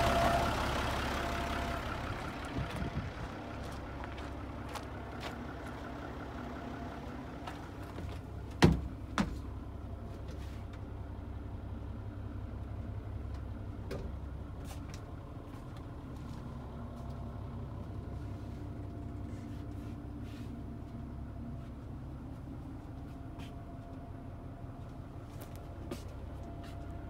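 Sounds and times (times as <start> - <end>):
diesel bus engine idling: 0.0 - 27.0.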